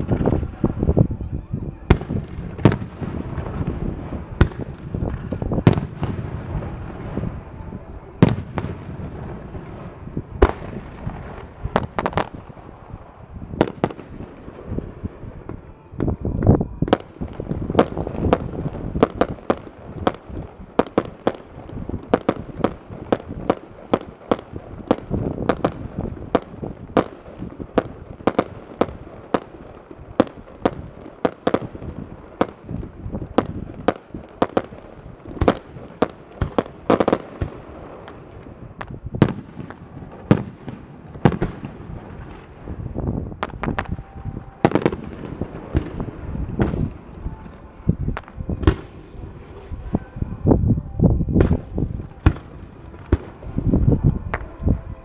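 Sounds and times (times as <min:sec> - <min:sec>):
firework shells bursting: 0:01.9 - 0:50.0.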